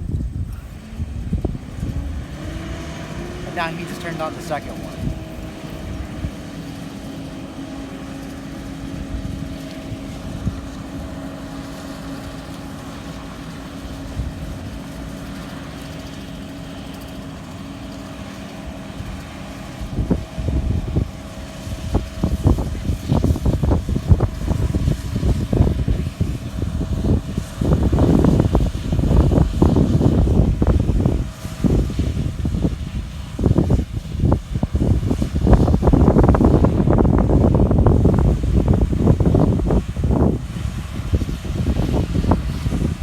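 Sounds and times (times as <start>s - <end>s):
combine harvester humming: 0.0s - 43.0s
wind buffeting microphone: 0.0s - 43.0s.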